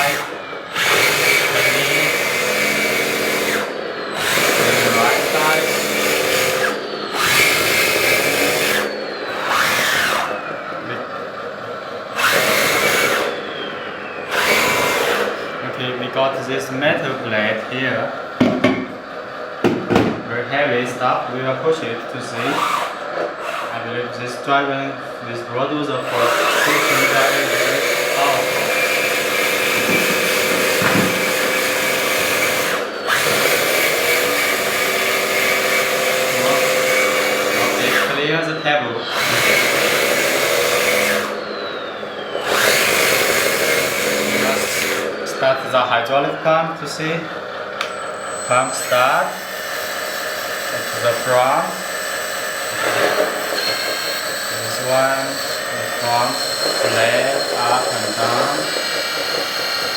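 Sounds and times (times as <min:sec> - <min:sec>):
electric motors and gearboxes whining: 0:00.0 - 0:59.9.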